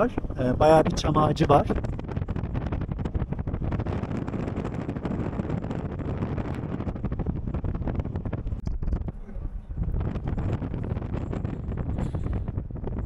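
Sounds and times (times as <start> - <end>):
road noise rumble: 0.0 - 13.0
wind buffeting microphone: 0.0 - 13.0.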